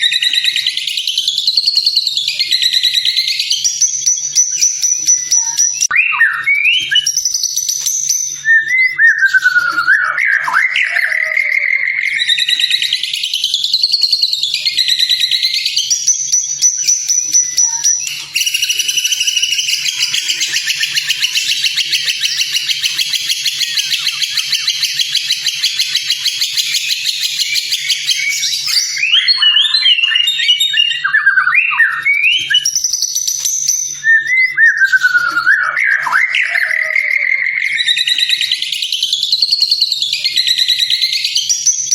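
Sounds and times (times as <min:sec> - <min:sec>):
bird whistled song: 0:00.0 - 0:41.9
rapid buzzy bird trill: 0:00.0 - 0:41.9.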